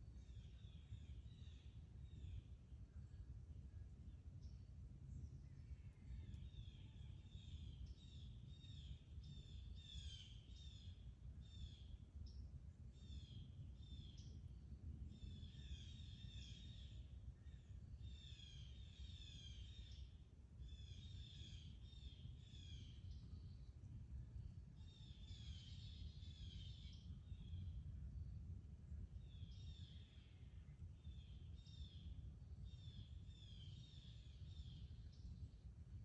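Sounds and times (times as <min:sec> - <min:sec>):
faint low outdoor rumble: 0:00.0 - 0:36.0.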